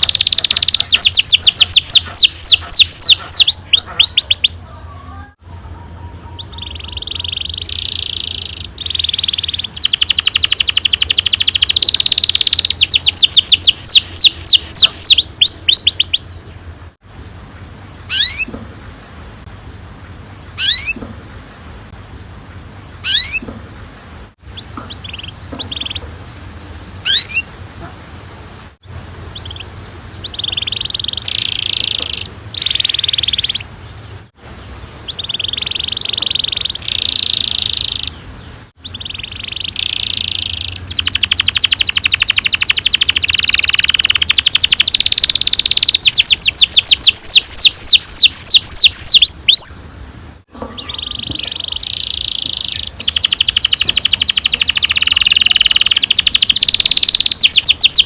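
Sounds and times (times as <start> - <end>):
canary singing trills: 0.0 - 16.7, 18.1 - 18.6, 20.5 - 21.1, 23.0 - 23.5, 24.4 - 26.2, 27.0 - 27.9, 29.0 - 34.3, 35.0 - 49.8, 50.6 - 58.0.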